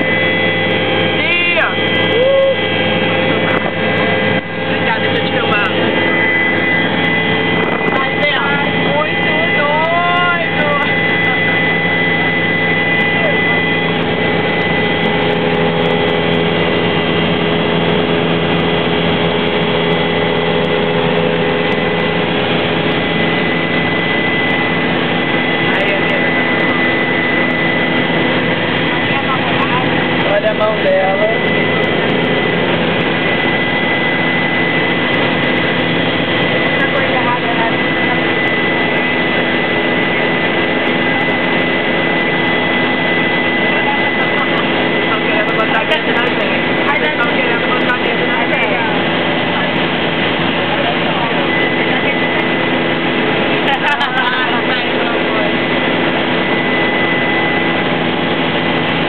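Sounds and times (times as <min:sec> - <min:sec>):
helicopter engine and rotor: 0:00.0 - 0:59.0
high whine: 0:00.0 - 0:59.0.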